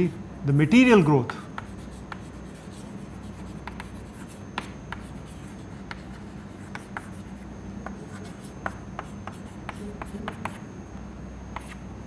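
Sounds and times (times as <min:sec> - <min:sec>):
low room hum: 0:00.0 - 0:12.0
chalk writing on a chalkboard: 0:01.2 - 0:10.7, 0:11.5 - 0:11.8.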